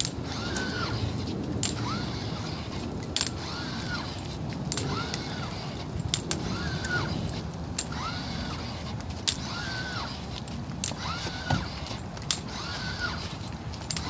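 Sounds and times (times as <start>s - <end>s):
crutch tips clicking on paving: 0.0s - 14.0s
exoskeleton motor whine: 0.0s - 14.0s.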